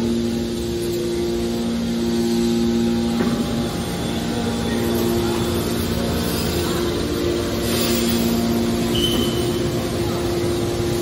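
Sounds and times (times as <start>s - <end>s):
machine hum: 0.0s - 11.0s
pump whine: 0.0s - 11.0s.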